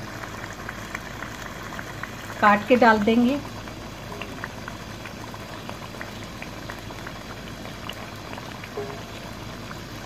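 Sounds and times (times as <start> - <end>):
curry bubbling in pot: 0.0 - 10.0.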